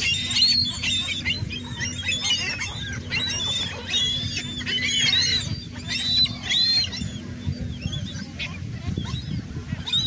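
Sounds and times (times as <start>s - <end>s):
seagulls squawking: 0.0s - 10.0s.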